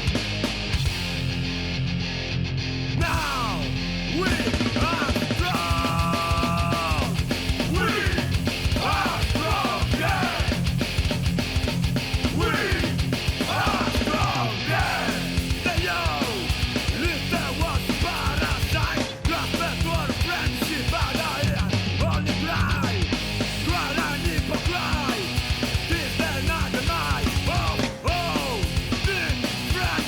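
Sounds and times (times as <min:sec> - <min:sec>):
rock music with vocals: 0:00.0 - 0:30.0.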